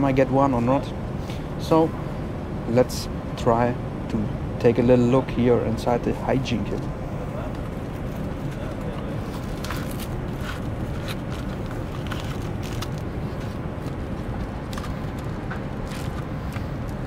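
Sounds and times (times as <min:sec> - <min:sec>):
airliner cabin hum: 0:00.0 - 0:17.0.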